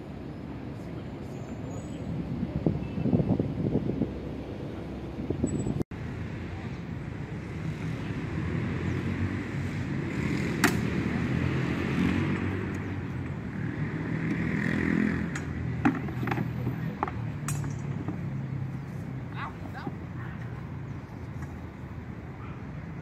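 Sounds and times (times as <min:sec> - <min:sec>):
city traffic hum: 0:00.0 - 0:23.0.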